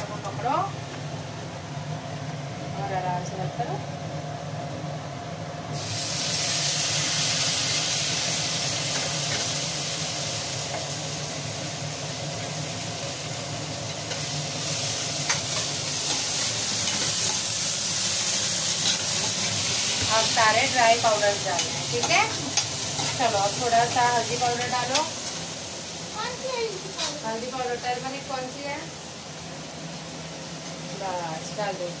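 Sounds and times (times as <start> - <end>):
tomatoes sizzling in hot oil: 5.7 - 32.0.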